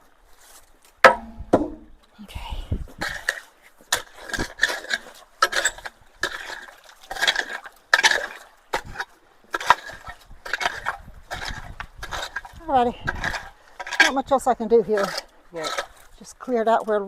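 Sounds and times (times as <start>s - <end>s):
metal tool scraping gravel: 3.0s - 17.0s.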